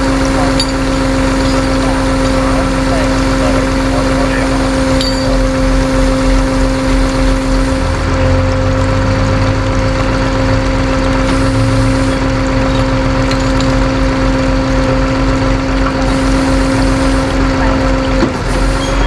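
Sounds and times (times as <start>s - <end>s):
motor vehicle whining and rumbling: 0.0s - 19.0s.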